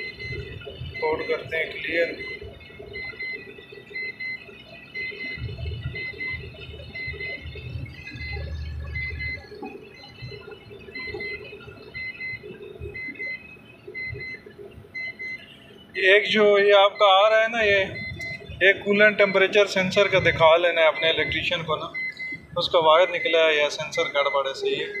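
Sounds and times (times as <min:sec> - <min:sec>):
diesel engine and road noise: 0:00.0 - 0:25.0
warning buzzer beeping: 0:00.0 - 0:25.0.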